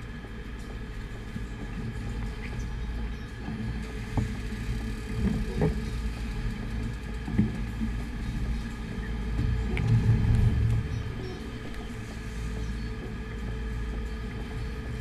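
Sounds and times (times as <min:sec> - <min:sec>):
boat engines rumbling: 0:00.0 - 0:15.0
water washing around boat: 0:00.0 - 0:15.0.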